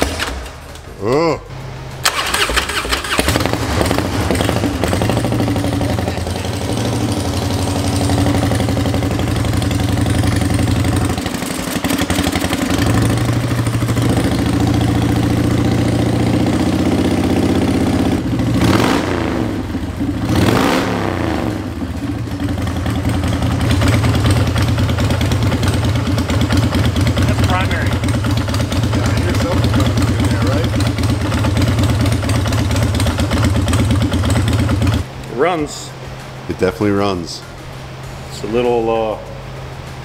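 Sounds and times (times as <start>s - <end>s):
motorcycle engine revving: 1.6s - 35.2s
motorcycle engine running: 2.0s - 36.4s.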